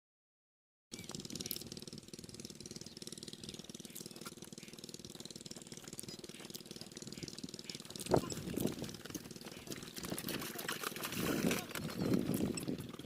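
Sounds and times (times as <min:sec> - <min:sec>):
diesel pump engine running: 0:00.9 - 0:13.0.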